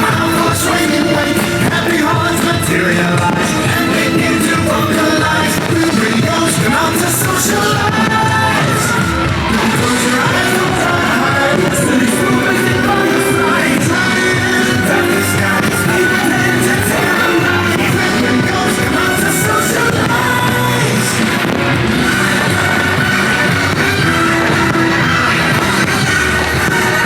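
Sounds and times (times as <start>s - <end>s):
rock music with singing: 0.0s - 27.0s.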